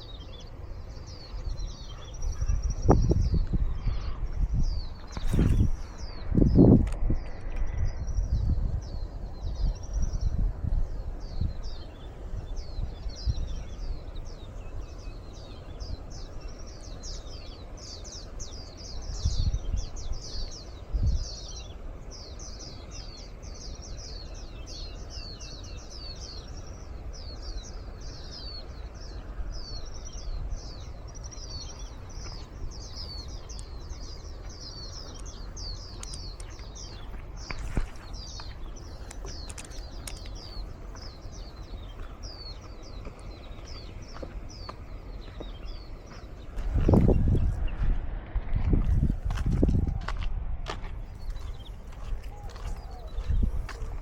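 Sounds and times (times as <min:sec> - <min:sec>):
wild birds chirping: 0:00.0 - 0:54.0
wind rumbling on microphone: 0:00.0 - 0:54.0.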